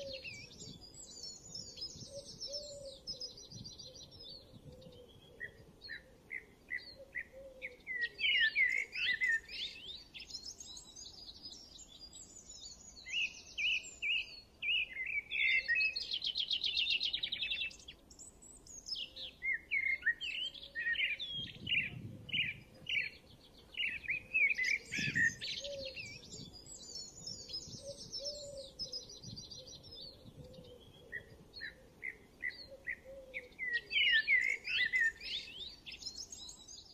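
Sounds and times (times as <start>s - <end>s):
songbirds chirping and singing: 0.0s - 36.9s.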